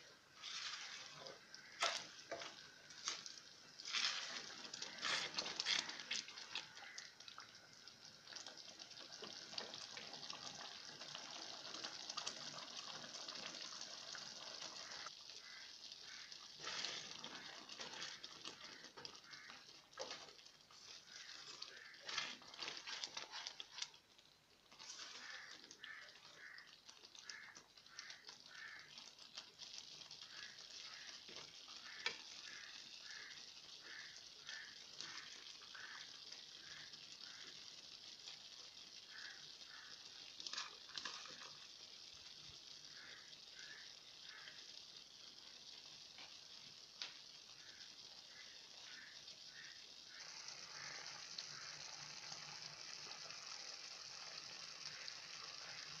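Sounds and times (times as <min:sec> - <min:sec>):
lentils simmering with bubbling pops: 0:00.0 - 0:56.0.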